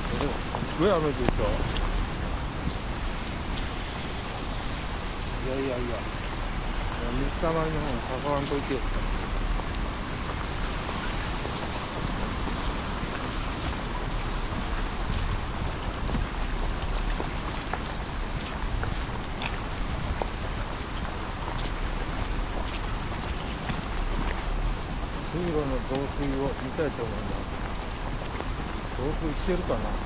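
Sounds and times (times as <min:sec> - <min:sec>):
heavy rain on wet paving: 0:00.0 - 0:30.0.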